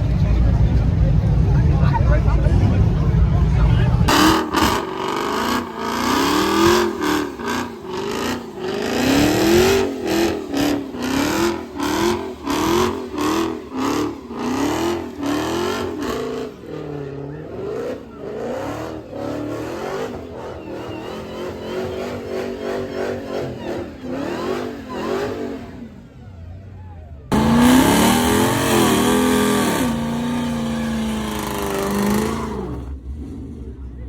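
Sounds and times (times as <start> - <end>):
car engine revving: 0.0 - 26.2, 27.3 - 34.0.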